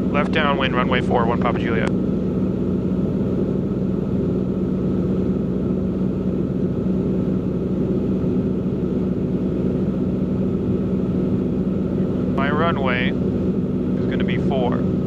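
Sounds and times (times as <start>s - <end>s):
aircraft engine and propeller drone: 0.0s - 15.0s.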